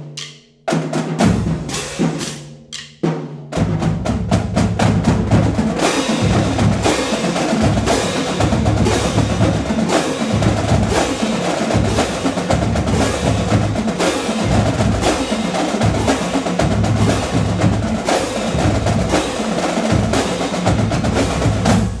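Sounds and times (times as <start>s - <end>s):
marching snare drums: 0.0s - 22.0s
pitched bass drums: 3.6s - 22.0s.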